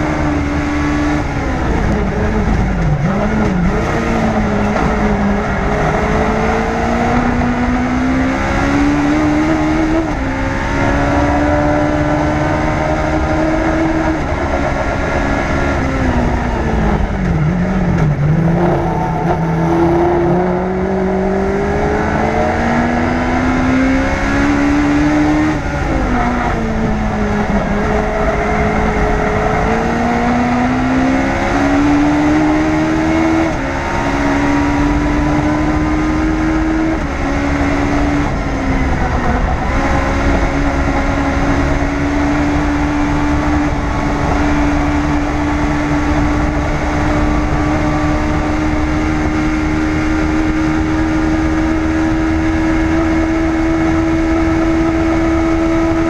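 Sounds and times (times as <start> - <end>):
race car engine revving: 0.0 - 56.0
wind and road rush: 0.0 - 56.0.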